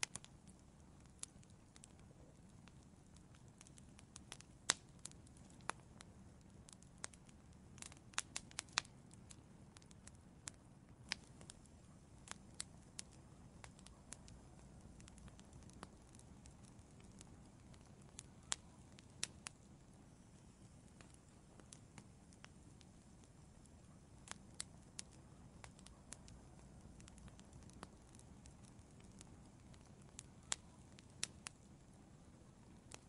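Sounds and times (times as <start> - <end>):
low rumble of flames: 0.0 - 33.0
wood fire crackling and popping: 0.0 - 33.0.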